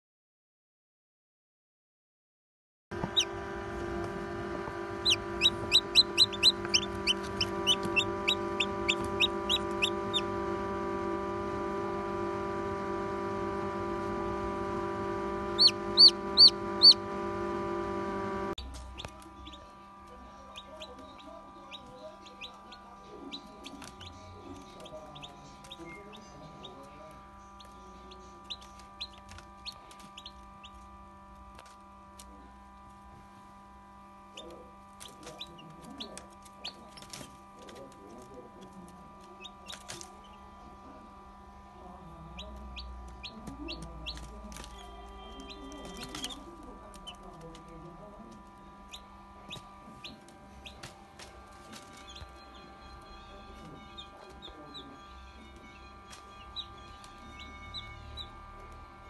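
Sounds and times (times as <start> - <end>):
steady hum: 2.9 - 59.0
chicks peeping: 3.0 - 11.4, 13.6 - 32.3, 34.3 - 41.0, 41.9 - 59.0.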